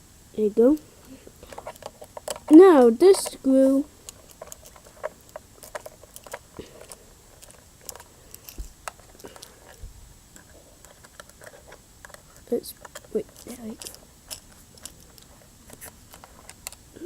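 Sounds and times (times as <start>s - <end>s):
handling of parts: 1.0s - 3.4s, 4.1s - 16.9s.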